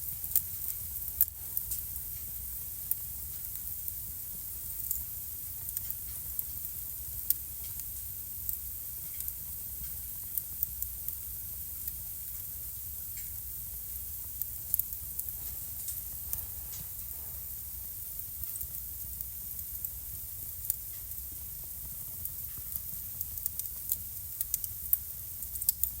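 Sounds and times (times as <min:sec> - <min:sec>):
fire rumble and hiss: 0:00.0 - 0:26.0
wood fire crackling and popping: 0:00.0 - 0:26.0.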